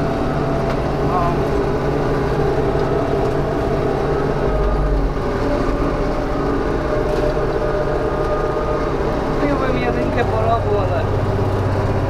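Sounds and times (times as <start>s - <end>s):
mower shredding branches: 0.0s - 12.0s
tractor engine running under load: 0.0s - 12.0s.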